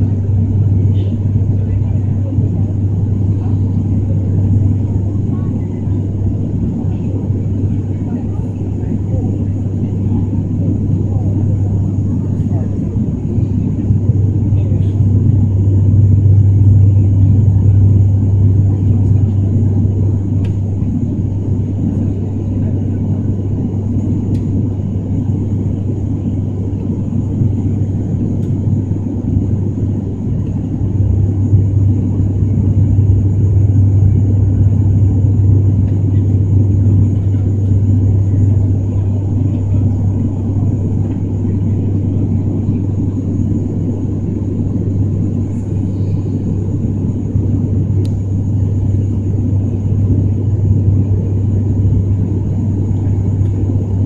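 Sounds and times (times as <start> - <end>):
broad rumble: 0.0 - 54.0
propeller drone: 0.0 - 54.0.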